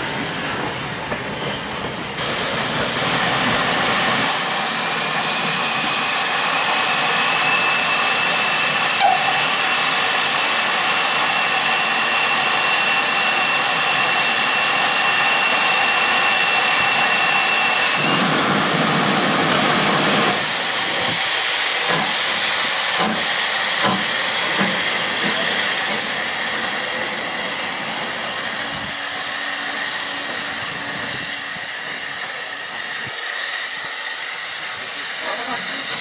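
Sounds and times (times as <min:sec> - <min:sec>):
steam hissing: 0:02.2 - 0:36.0
steam locomotive exhaust chuffs: 0:02.2 - 0:36.0.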